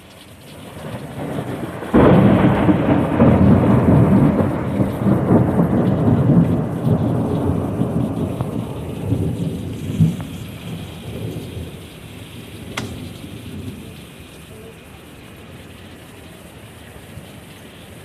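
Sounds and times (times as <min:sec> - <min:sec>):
thunder rumbling: 0:00.0 - 0:17.6
heavy rain pouring: 0:00.0 - 0:18.0.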